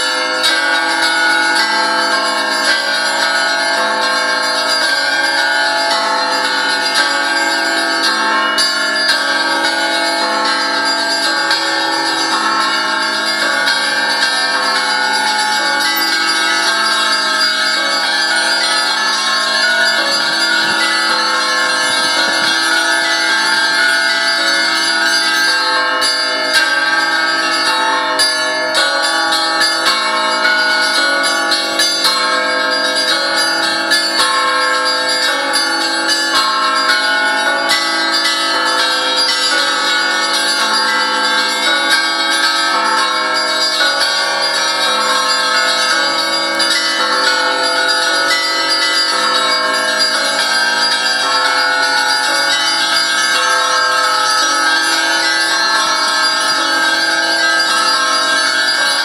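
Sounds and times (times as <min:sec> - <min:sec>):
deep church bells ringing: 0:00.0 - 0:59.0
small church bells striking: 0:00.0 - 0:59.0.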